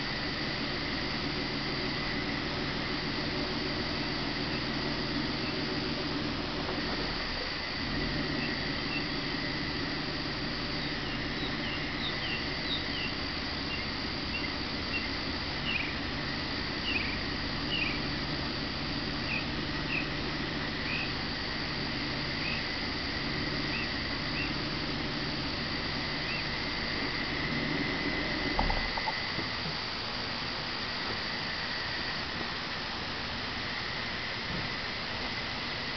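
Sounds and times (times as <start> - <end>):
car engine idling: 0.0 - 35.9
insect trilling: 0.0 - 35.9.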